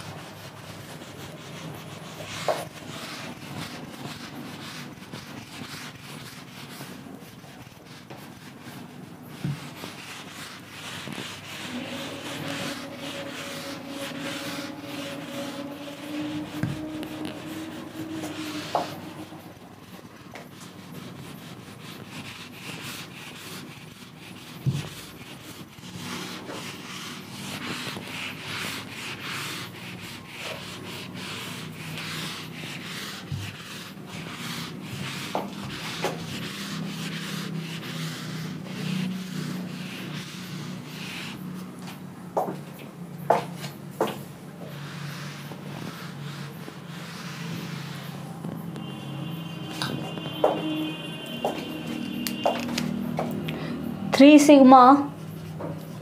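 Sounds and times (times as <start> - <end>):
duster scrubbing a whiteboard: 0.0 - 56.0.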